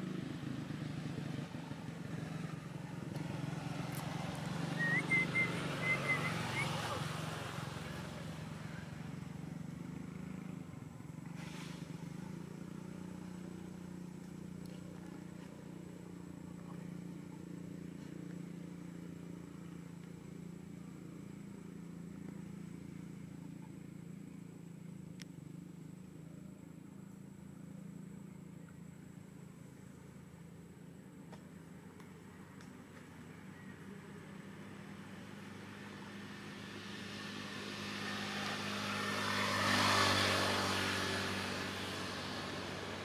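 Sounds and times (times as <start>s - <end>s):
distant motor drone: 0.0s - 43.0s.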